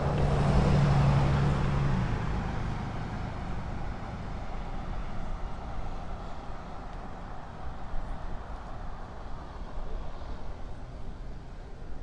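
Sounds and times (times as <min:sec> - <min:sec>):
wind and rolling noise: 0:00.0 - 0:12.0.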